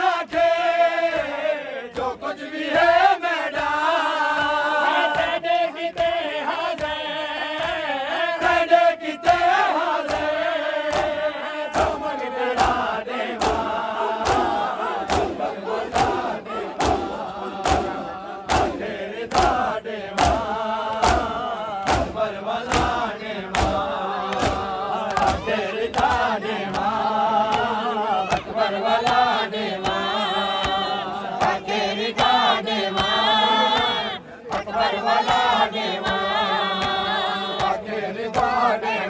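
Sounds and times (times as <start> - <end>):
men chanting in unison: 0.0 - 39.0
hands slapping chests: 4.3 - 31.6, 32.2 - 38.6.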